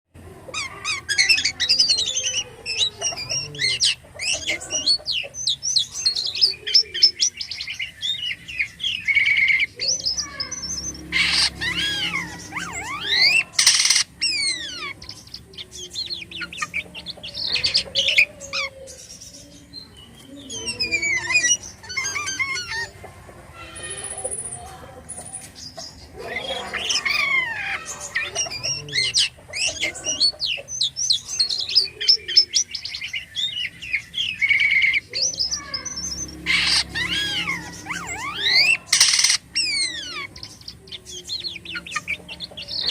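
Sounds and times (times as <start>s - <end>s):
starling singing: 0.2s - 42.9s.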